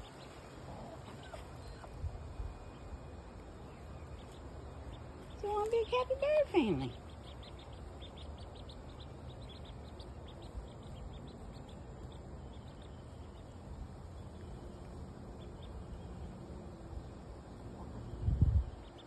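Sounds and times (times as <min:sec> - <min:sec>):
ducklings peeping: 0:00.0 - 0:19.0
low background noise: 0:00.0 - 0:19.0.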